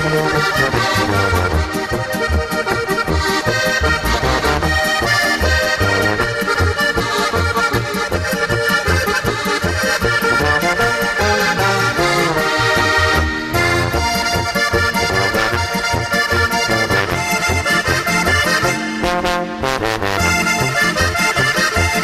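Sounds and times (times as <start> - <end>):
accordion folk dance music: 0.0 - 22.0.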